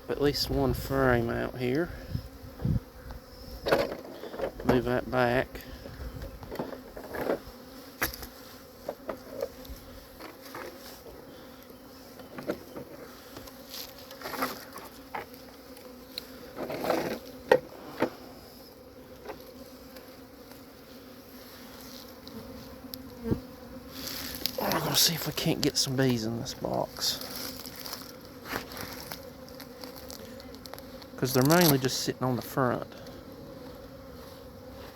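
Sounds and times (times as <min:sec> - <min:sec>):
bees buzzing: 0:00.0 - 0:34.9
clicks and knocks from hive: 0:02.5 - 0:04.9, 0:05.5 - 0:18.2, 0:19.1 - 0:20.7, 0:22.0 - 0:34.9.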